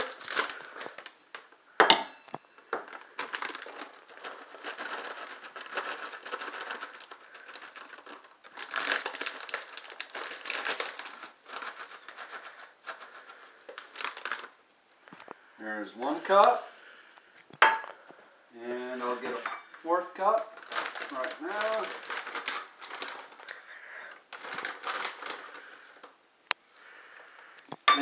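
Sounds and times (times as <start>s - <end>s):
crinkly package rustling: 0.0s - 1.7s, 2.4s - 17.0s, 18.8s - 27.4s.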